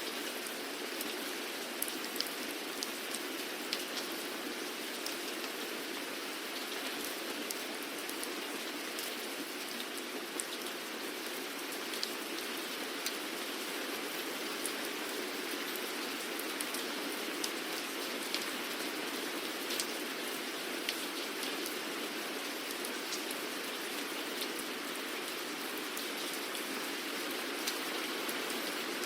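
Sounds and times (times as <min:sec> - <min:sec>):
raindrops hitting a surface: 0:00.0 - 0:29.0.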